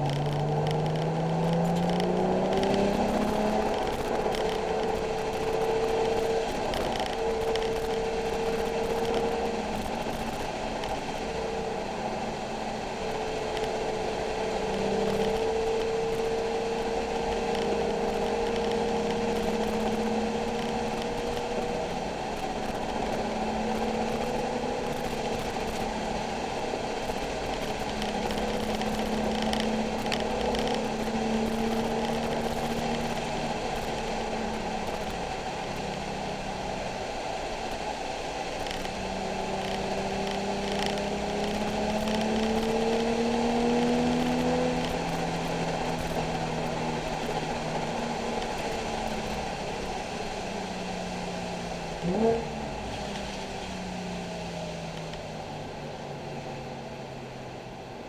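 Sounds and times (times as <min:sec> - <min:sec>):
car engine revving under load: 0:00.0 - 0:57.8.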